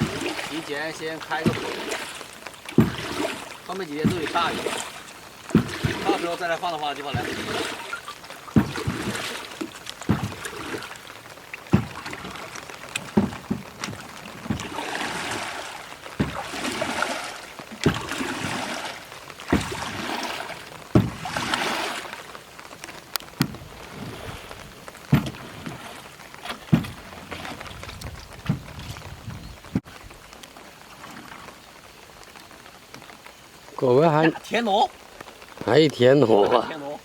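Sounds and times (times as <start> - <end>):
wet mud and water swishing: 0.0 - 37.0.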